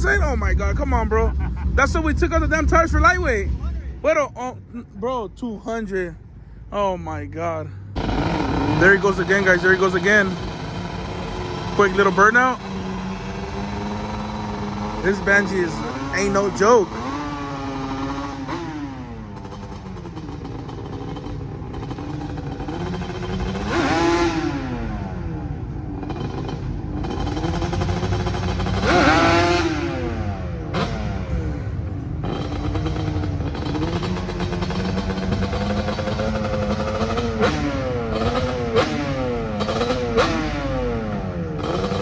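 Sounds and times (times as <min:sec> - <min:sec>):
two-stroke engine revving: 0:00.0 - 0:04.5, 0:06.8 - 0:42.0.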